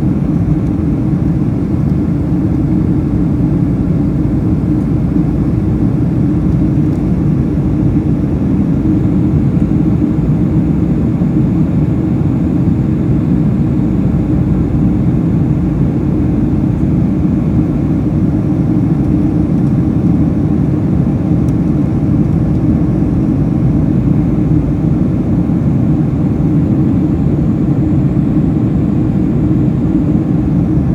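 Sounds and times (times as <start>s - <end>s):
airplane cabin engine noise: 0.0s - 30.9s.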